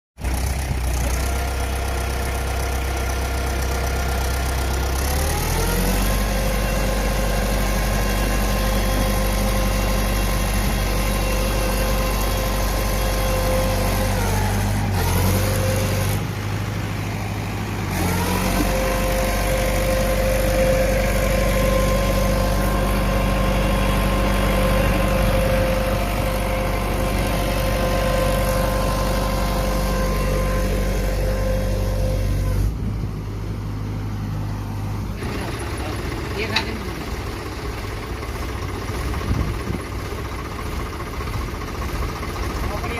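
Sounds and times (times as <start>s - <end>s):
tractor diesel engine revving: 0.2s - 42.9s.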